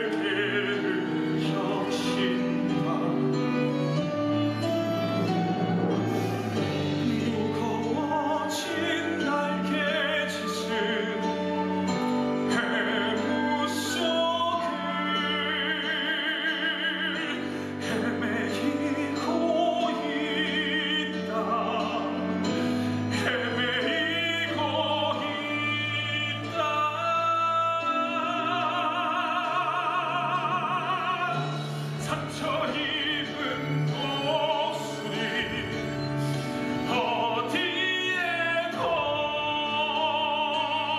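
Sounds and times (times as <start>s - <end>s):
man singing with vibrato: 0.0s - 40.9s
orchestral accompaniment: 0.0s - 40.9s.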